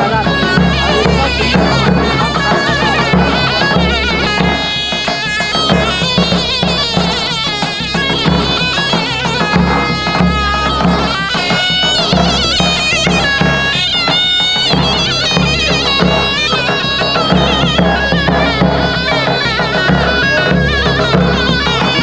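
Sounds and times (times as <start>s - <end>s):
large drum beats: 0.0s - 22.0s
shrill reed pipe melody: 0.0s - 22.0s.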